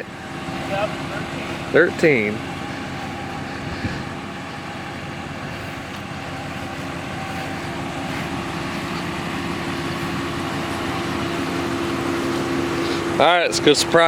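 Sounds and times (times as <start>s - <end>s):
engine and road drone: 0.0s - 14.0s.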